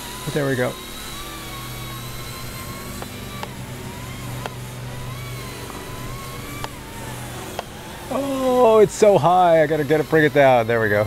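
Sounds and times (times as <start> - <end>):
toy helicopter rotor whining: 0.0 - 11.0.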